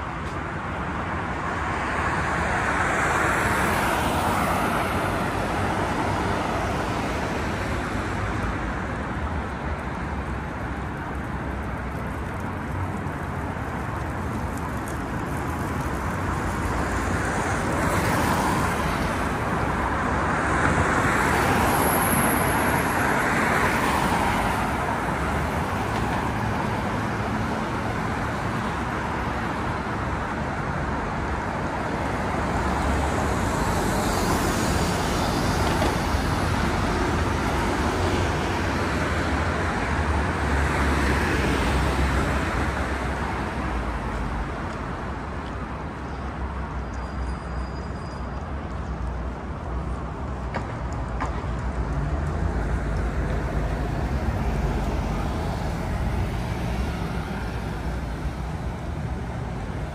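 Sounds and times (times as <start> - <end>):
cars passing on road: 0.0 - 59.9.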